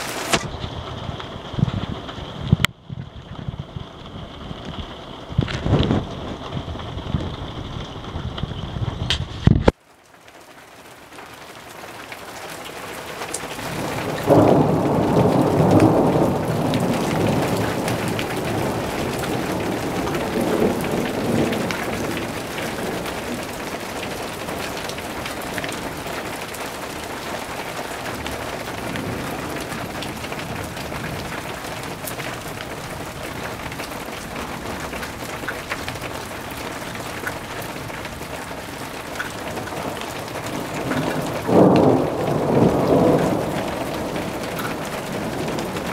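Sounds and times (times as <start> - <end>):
thunder rumbling: 0.0 - 9.7, 13.2 - 45.9
raindrops ticking: 0.0 - 45.9
steady rain: 0.0 - 45.9.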